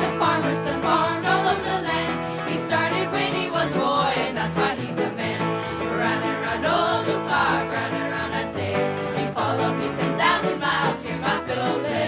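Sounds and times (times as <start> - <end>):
fiddles playing: 0.0 - 12.0
strummed acoustic guitar: 0.0 - 12.0.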